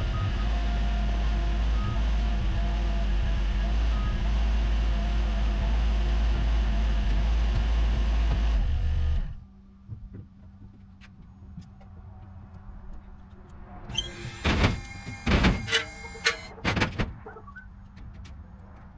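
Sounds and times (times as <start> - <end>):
heavy engine deep rumble: 0.0 - 18.9.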